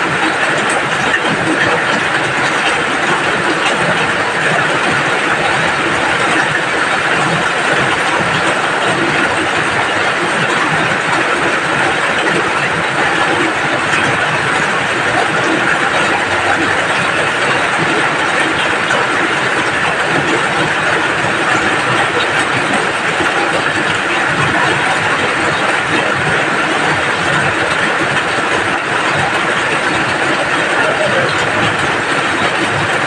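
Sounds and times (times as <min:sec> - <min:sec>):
rain falling steadily: 0:00.0 - 0:33.0.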